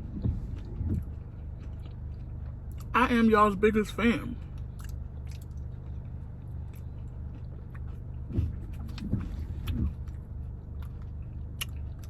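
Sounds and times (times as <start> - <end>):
person chewing: 0.0 - 2.9, 4.4 - 12.0
car cabin hum: 0.0 - 12.0.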